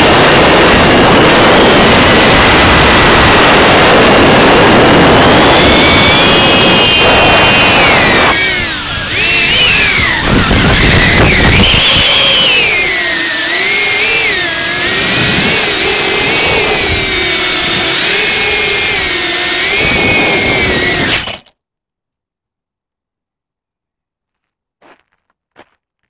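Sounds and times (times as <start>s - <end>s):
quadcopter motors whining: 0.0s - 21.5s.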